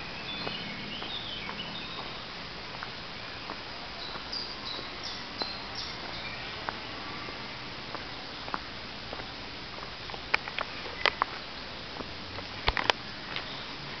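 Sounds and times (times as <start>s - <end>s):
twigs crackling underfoot: 0.0s - 13.7s
footsteps on dirt path: 0.0s - 14.0s
steady hiss: 0.0s - 14.0s.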